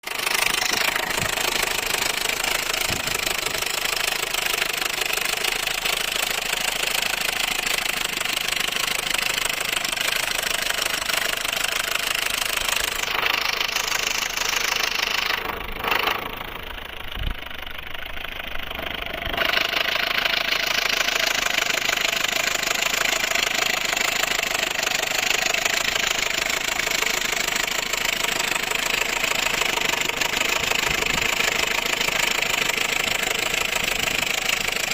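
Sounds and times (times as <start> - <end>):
engine running with knocking rattle: 0.0 - 34.9.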